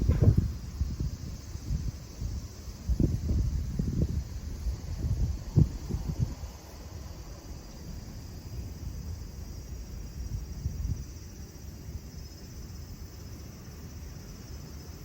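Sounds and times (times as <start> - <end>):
wind rumble on microphone: 0.0 - 12.1
insects chirring: 0.0 - 15.0.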